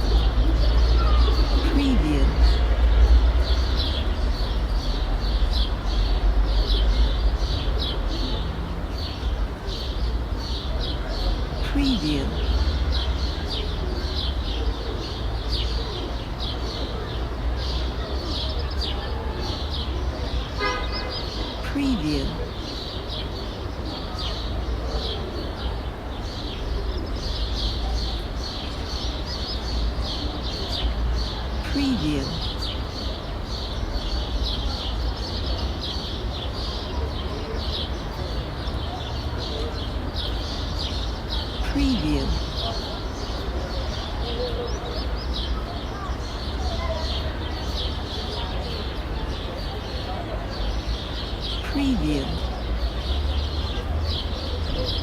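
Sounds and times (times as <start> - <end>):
distant city traffic rumble: 0.0 - 55.0
small birds chirping: 0.0 - 55.0.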